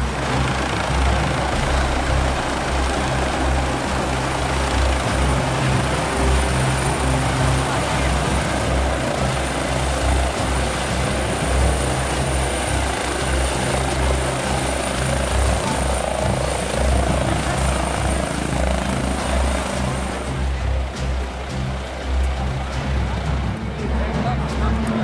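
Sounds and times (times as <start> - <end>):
helicopter engine noise: 0.0 - 24.9
helicopter rotor beat: 0.0 - 25.0.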